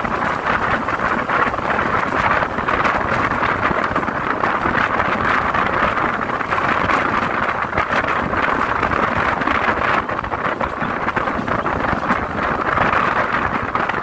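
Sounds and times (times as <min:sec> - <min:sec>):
train wheels on rails: 0:00.0 - 0:14.0
wind rushing over microphone: 0:00.0 - 0:14.0.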